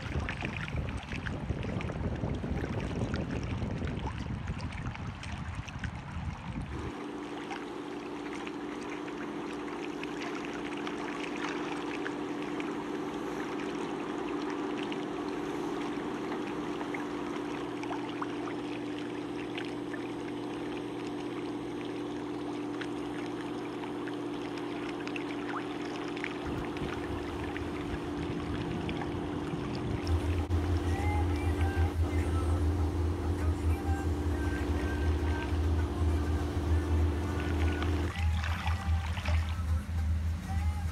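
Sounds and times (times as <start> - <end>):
motorboat engine droning: 0.0 - 40.9
water splashing along hull: 0.0 - 40.9.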